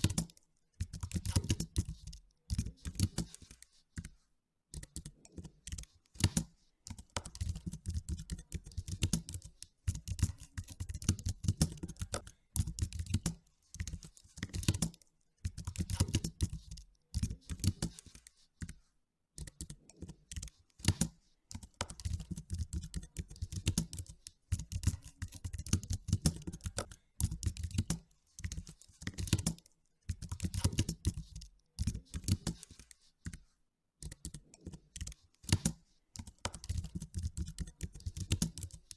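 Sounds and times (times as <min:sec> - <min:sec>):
typing on computer keyboard: 0:00.0 - 0:33.4, 0:34.0 - 0:38.9.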